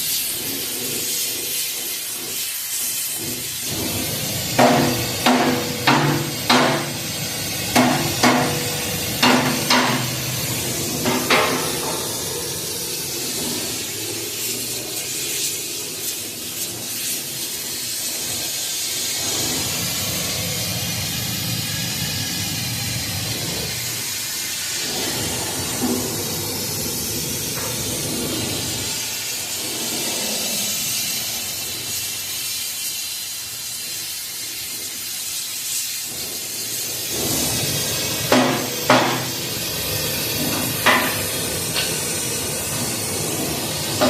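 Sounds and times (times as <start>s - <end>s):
heating torch hissing: 0.0s - 44.0s.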